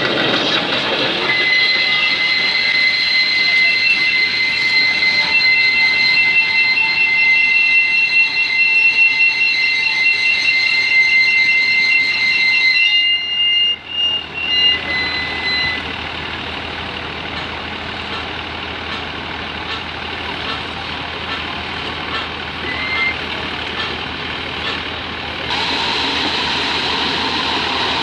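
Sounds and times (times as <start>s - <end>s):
heavy machinery rumble: 0.0s - 12.4s, 13.1s - 28.0s
machinery high-pitched whine: 0.0s - 28.0s.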